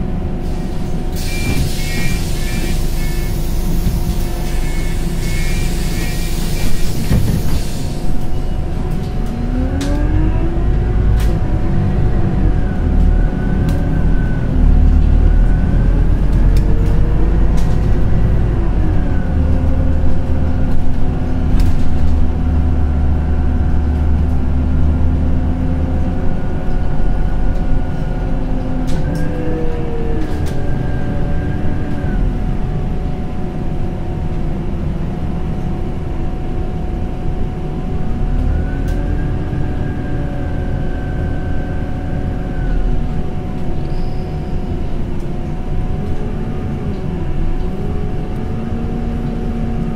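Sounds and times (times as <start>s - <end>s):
bus driveline whine: 0.0s - 49.9s
bus engine rumble: 0.0s - 49.9s.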